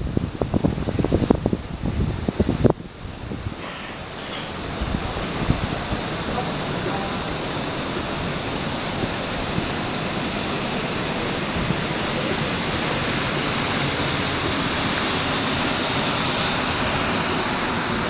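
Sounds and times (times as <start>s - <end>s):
faint high whine of ship: 0.0s - 18.0s
wind rushing: 0.0s - 18.0s
sea water rushing: 1.2s - 18.0s.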